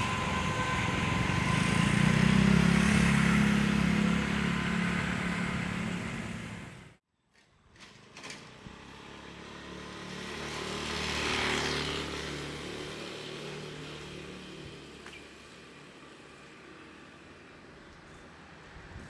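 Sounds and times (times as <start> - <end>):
motor vehicle passing by: 0.0 - 7.0, 8.4 - 19.0.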